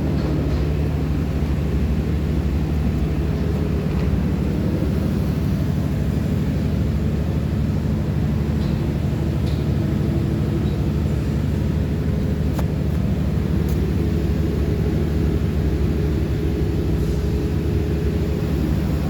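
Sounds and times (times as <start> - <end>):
machinery engine drone: 0.0 - 19.0.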